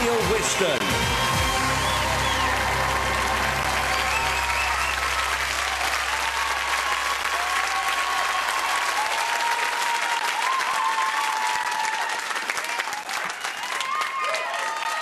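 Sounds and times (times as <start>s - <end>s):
audience clapping: 0.0s - 15.0s
audience cheers and whoops: 0.1s - 15.0s.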